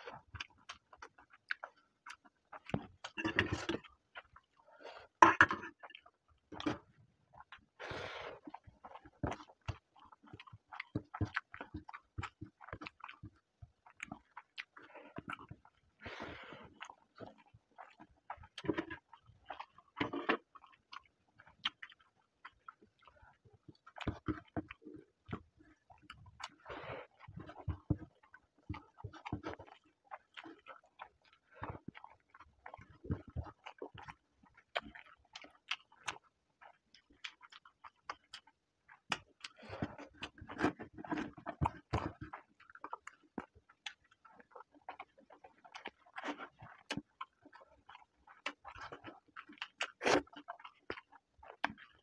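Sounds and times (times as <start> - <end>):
man chewing food: 0.0 - 52.0.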